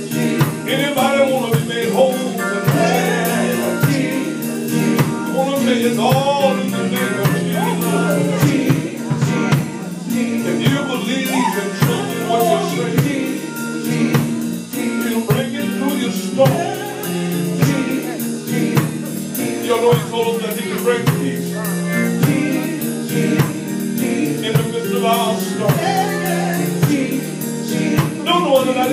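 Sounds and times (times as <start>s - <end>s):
group singing gospel: 0.0s - 28.9s
steady drum beat: 0.0s - 28.9s.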